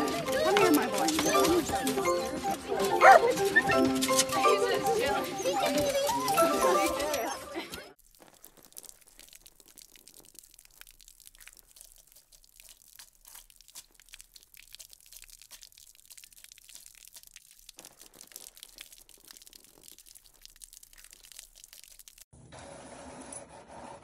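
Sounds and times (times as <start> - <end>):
puppy lapping water: 0.0 - 22.3
tap water stream: 0.0 - 22.3.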